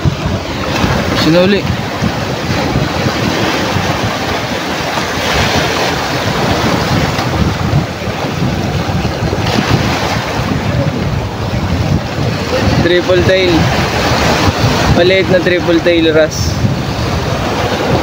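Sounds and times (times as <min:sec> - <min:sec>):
waves breaking over rocks: 0:00.0 - 0:18.0
wind buffeting microphone: 0:00.0 - 0:18.0.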